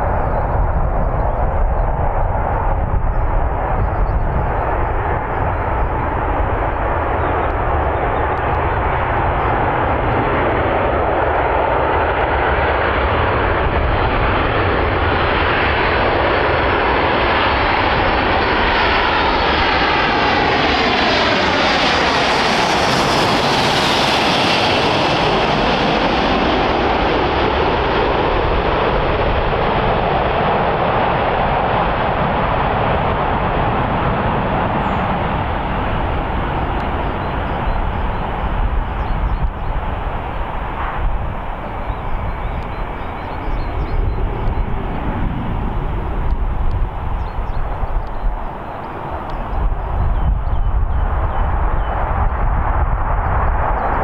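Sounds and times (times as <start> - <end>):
jet aircraft passing: 0.0 - 54.0.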